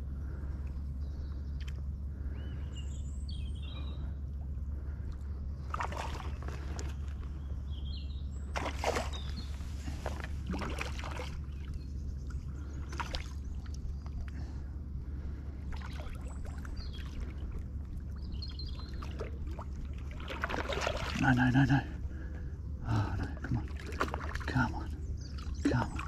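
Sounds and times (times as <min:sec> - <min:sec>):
wind rumble on microphone: 0:00.0 - 0:22.8.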